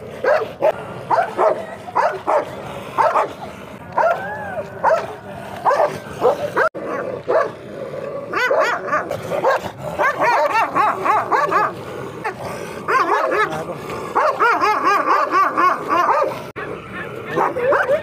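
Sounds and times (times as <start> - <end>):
large dog barking: 0.0 - 18.0.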